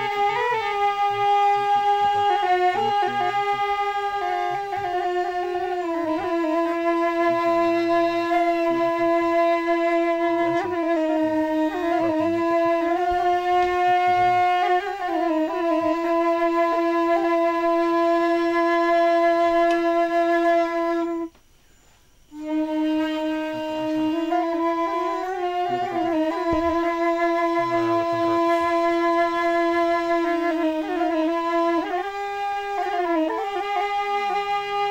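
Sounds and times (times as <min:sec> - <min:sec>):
slow flute-like melody: 0:00.0 - 0:21.4, 0:22.3 - 0:34.9.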